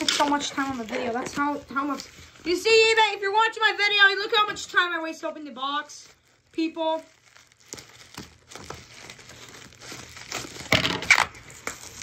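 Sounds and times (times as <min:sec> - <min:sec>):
plastic package crinkling: 0:00.0 - 0:12.0.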